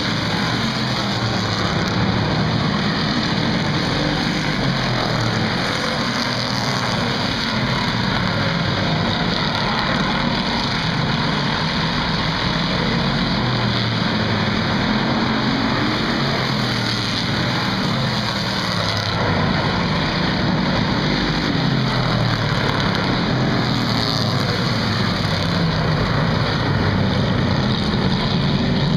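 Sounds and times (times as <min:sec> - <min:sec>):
stock car engines racing: 0:00.0 - 0:28.9.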